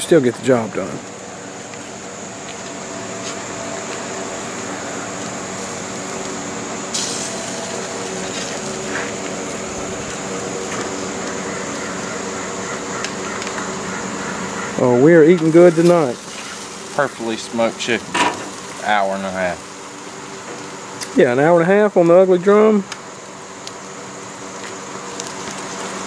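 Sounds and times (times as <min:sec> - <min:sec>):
thin high whine: 0:00.0 - 0:21.6
mechanical drone: 0:00.0 - 0:22.7.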